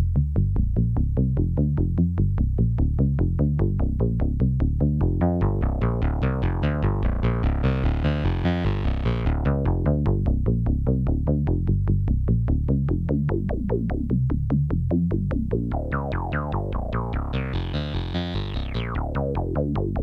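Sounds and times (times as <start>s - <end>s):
plucky low synthesizer notes: 0.0s - 20.0s.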